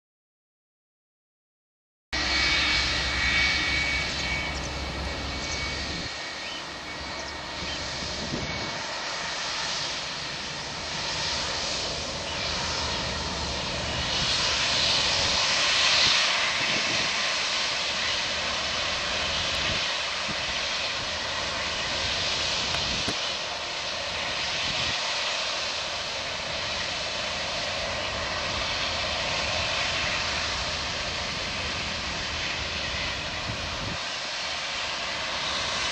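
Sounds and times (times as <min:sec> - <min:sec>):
jet engines whining: 0:02.2 - 0:35.9.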